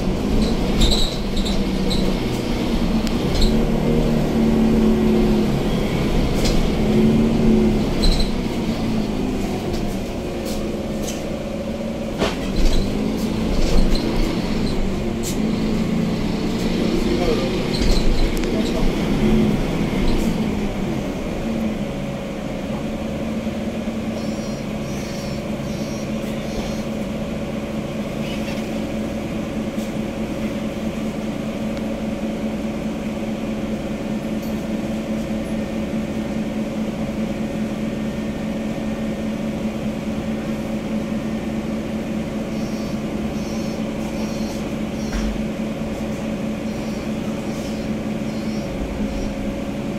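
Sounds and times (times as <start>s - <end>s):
bus diesel engine: 0.0s - 49.9s.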